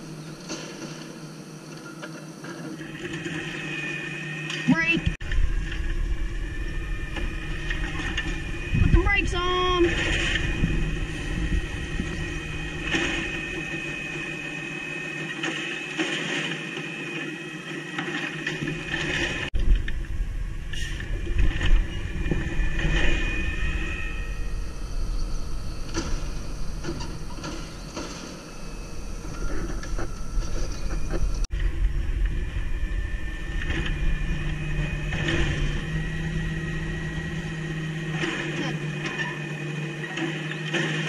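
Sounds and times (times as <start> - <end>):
garbage truck running: 0.0 - 41.0
hydraulic whine: 0.0 - 41.0.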